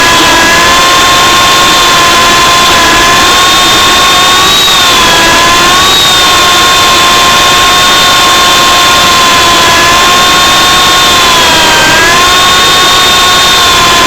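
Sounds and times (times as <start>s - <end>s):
toy helicopter motors whining: 0.0s - 14.0s.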